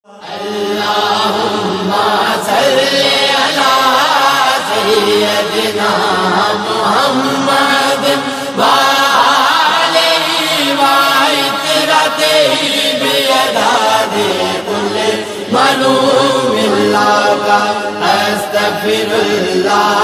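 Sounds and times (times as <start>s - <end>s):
devotional vocal chanting: 0.0s - 20.0s.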